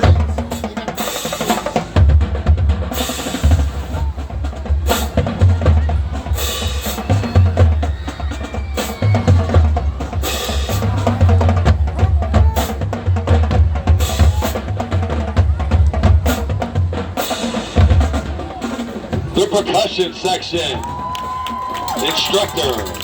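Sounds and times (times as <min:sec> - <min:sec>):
pounding bass drums: 0:00.0 - 0:19.9
rapid snare drumming: 0:00.0 - 0:23.0.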